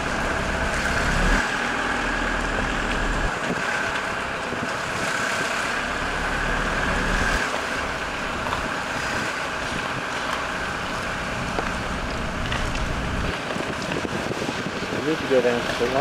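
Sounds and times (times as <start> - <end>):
vehicle engine and tyre noise: 0.0 - 16.0.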